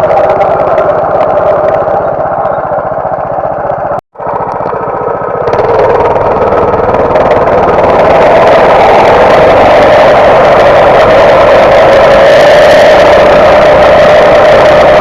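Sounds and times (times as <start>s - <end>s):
mini bike engine running: 0.0s - 15.0s.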